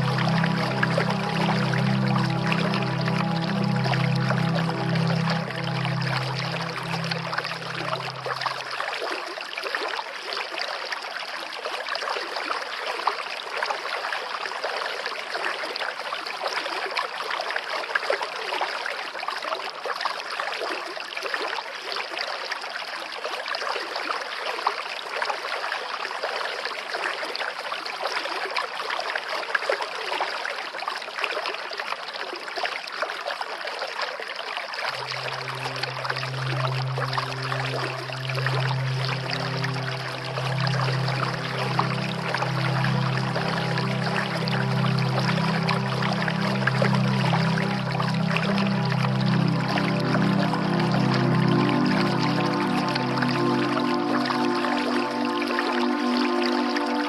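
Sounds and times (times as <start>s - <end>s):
river water running: 0.0s - 57.0s.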